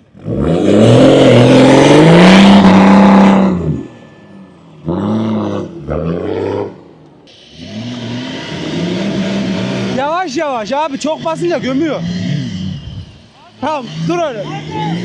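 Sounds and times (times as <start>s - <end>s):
off-road vehicle engine revving: 0.0s - 4.0s, 4.8s - 15.0s.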